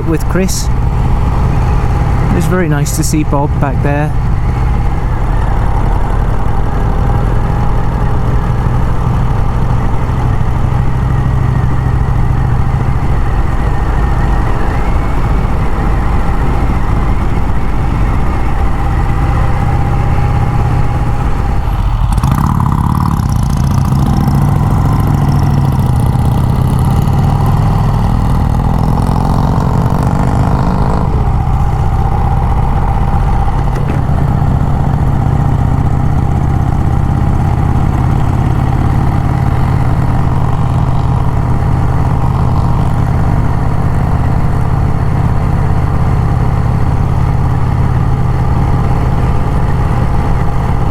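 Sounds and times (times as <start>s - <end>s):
motorcycle engine running: 0.0s - 50.9s
wind and road rush: 0.0s - 50.9s.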